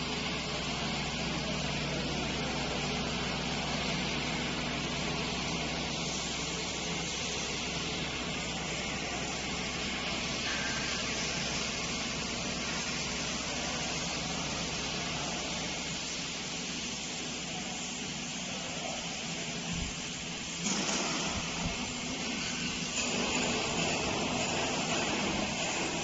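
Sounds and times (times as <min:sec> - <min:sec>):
furnace hissing: 0:00.0 - 0:26.0.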